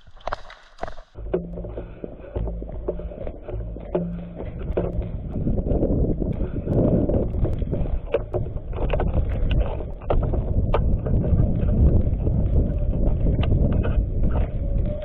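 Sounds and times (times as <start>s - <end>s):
low rumbling noise: 1.1s - 15.0s.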